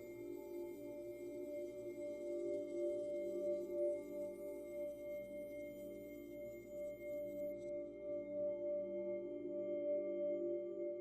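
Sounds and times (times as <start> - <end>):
ambient drone of ringing tones: 0.0 - 11.0.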